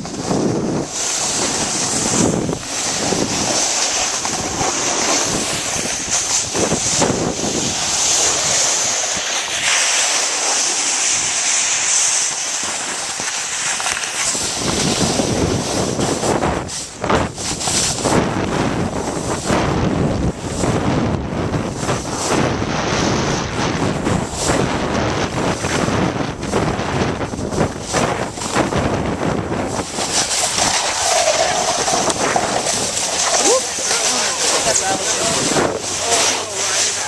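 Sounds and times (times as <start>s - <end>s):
snowboard sliding over snow: 0.0s - 37.0s
wind buffeting microphone: 0.0s - 37.0s.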